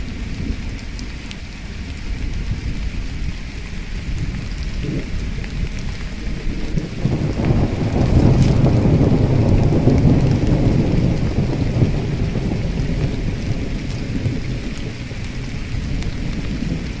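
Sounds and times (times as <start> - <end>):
loud steady rumbling: 0.0 - 17.0.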